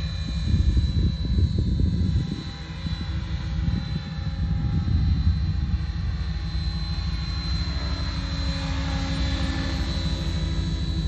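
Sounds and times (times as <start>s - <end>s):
electric motor whine: 0.0s - 11.0s
rotor blades fluttering: 0.0s - 11.0s.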